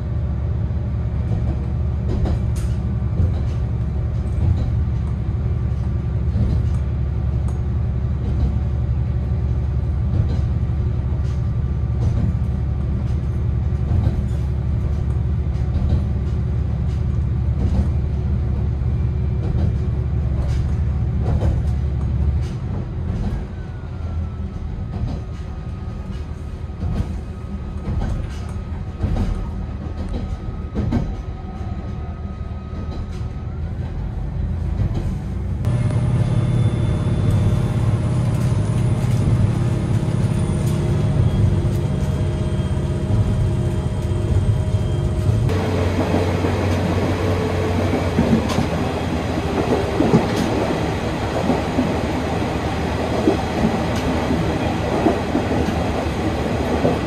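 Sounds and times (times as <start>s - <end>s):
train engine and wheels rumbling: 0.0s - 57.0s
rail joint clicks: 0.6s - 57.0s.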